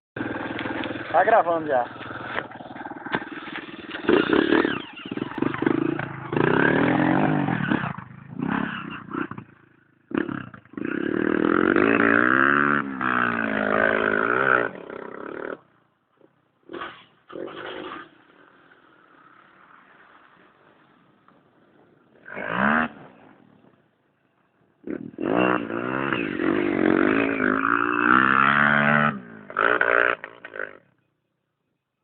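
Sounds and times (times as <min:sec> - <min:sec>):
motorcycle engine revving: 0:00.2 - 0:20.8, 0:22.0 - 0:23.7, 0:24.8 - 0:31.0.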